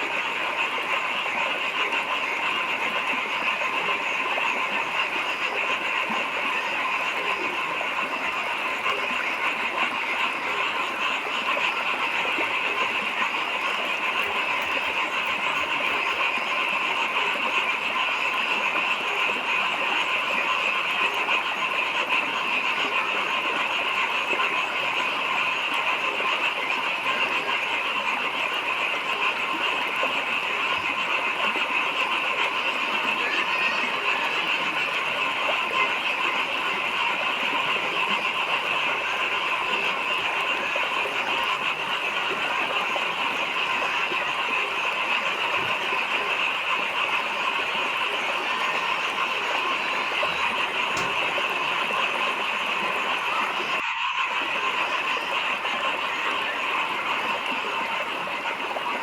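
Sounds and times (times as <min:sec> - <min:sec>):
chorus of frogs calling: 0:00.0 - 0:59.0.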